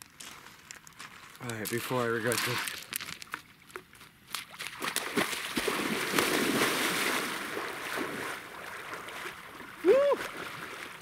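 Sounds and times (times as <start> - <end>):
water splashing and sloshing: 0.7 - 11.0.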